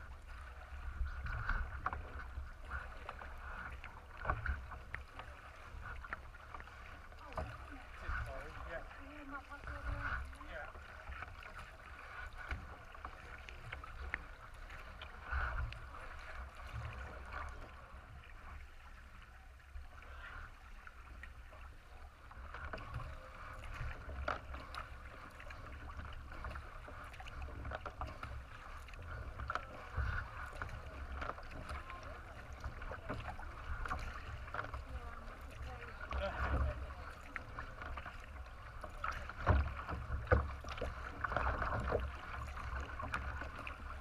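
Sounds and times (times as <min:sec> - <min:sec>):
water splashing along kayak hull: 0:00.0 - 0:44.0.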